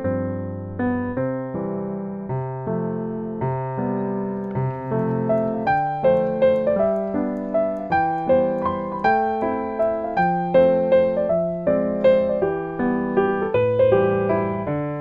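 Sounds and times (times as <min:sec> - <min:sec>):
piano tune: 0:00.0 - 0:15.0.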